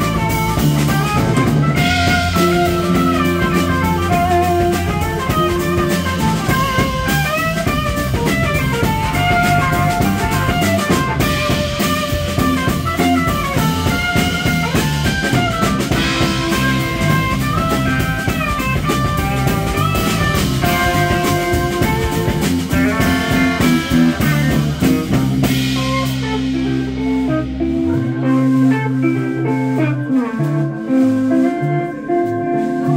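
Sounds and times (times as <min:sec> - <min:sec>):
bass guitar: 0:00.0 - 0:32.9
drum kit: 0:00.0 - 0:32.9
electric guitar: 0:00.0 - 0:32.9
keyboard: 0:00.0 - 0:32.9.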